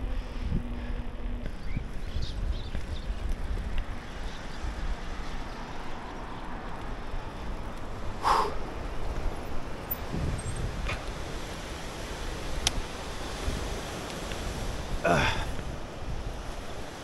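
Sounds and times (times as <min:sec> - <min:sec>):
outdoor rushing noise: 0:00.0 - 0:17.0
wind buffeting microphone: 0:00.0 - 0:17.0.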